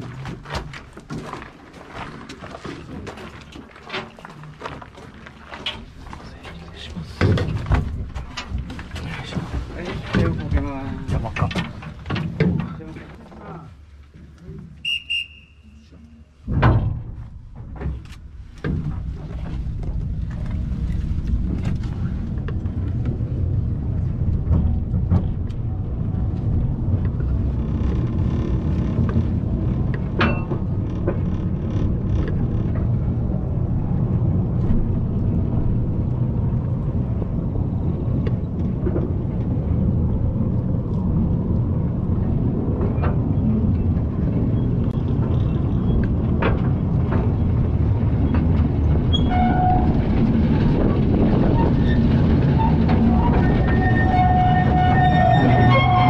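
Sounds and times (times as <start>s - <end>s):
trolley cars rumbling on track: 0.0s - 14.0s, 14.8s - 56.0s.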